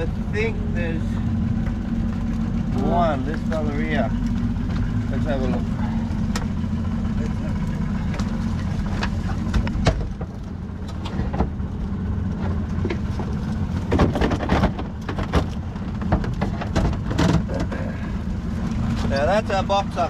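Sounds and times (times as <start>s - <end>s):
boat motor idling: 0.0s - 20.0s.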